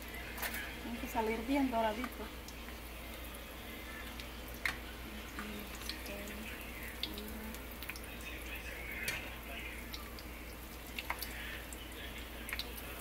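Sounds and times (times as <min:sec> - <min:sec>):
food frying in oil: 0:00.0 - 0:13.0.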